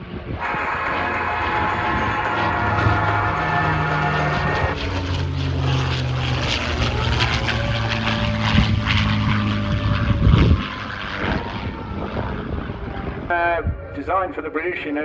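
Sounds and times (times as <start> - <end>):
propeller aircraft passing: 0.0 - 15.0.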